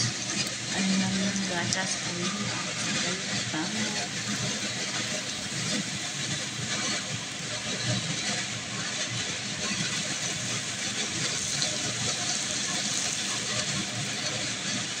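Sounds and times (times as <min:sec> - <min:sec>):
hot oil sizzling in a wok: 0:00.0 - 0:15.0.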